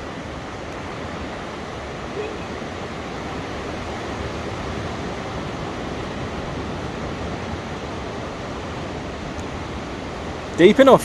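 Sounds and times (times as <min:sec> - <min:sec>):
sea waves crashing: 0:00.0 - 0:11.0.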